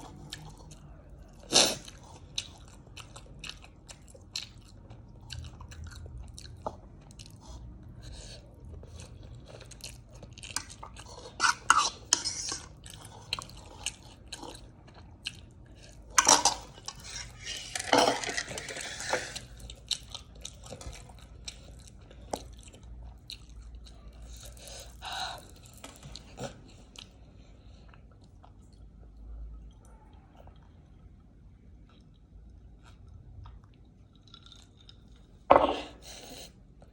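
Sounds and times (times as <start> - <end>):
chewing with wet clicks: 0.0 - 17.8, 19.0 - 35.4.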